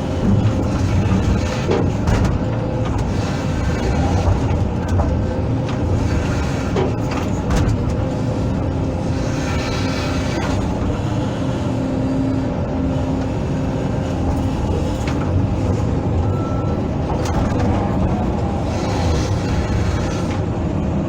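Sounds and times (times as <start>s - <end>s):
diesel engine running under load: 0.0s - 21.0s
hydraulic whine: 0.0s - 21.0s.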